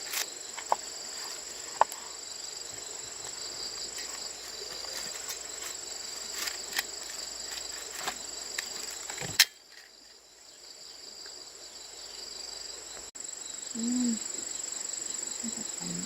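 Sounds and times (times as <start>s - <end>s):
insect trill: 0.0s - 16.0s
insects chirping: 0.0s - 16.0s
low background noise: 0.0s - 16.0s.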